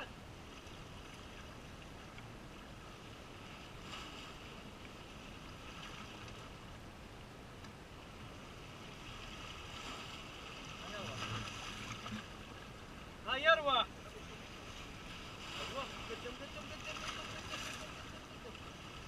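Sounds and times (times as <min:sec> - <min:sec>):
calm sea: 0:00.0 - 0:19.0
wind: 0:00.0 - 0:19.0.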